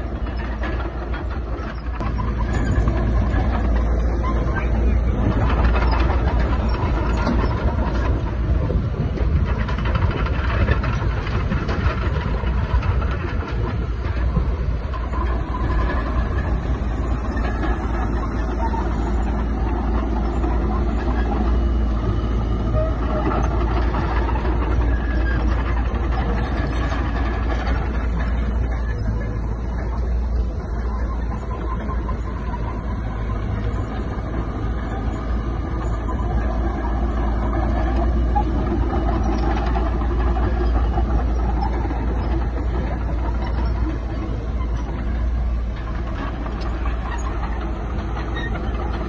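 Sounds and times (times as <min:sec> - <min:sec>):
diesel machinery engine drone: 0:00.0 - 0:49.0.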